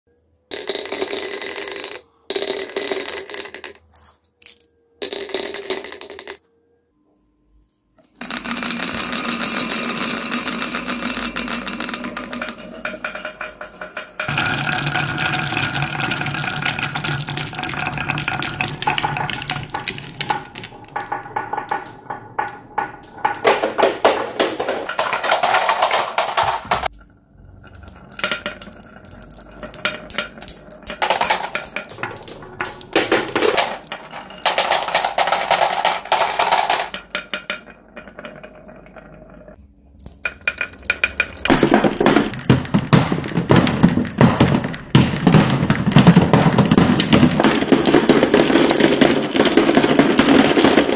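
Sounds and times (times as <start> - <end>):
marbles clattering on wooden tracks: 0.5 - 6.4, 8.2 - 50.9
marbles dropping into plastic toy: 0.5 - 6.4, 8.2 - 42.6, 46.0 - 50.9.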